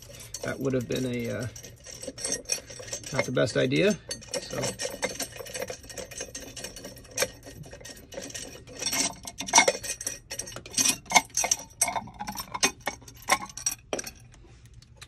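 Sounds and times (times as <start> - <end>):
metallic clicks and scrapes: 0.0 - 15.0.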